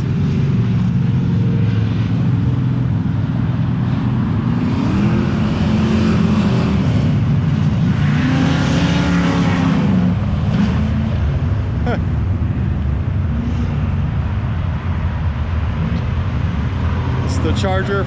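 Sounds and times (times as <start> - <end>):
cars revving and driving past: 0.0 - 18.0.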